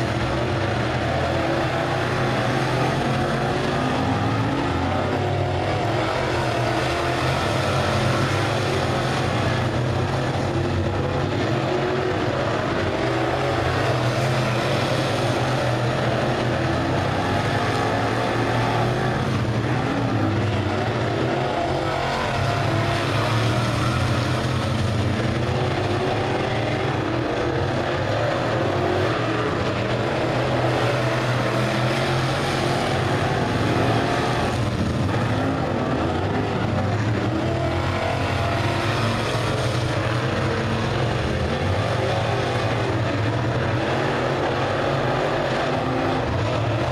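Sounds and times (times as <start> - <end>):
race car engines droning: 0.0 - 46.9.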